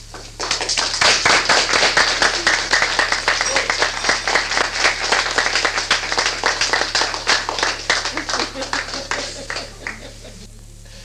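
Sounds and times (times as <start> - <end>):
audience applauding: 0.0 - 10.3
steady low hum: 0.0 - 11.0.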